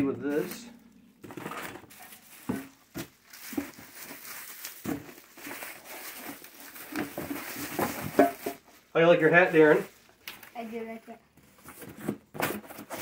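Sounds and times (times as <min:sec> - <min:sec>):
bubble wrap and cardboard rustling: 0:00.0 - 0:13.0.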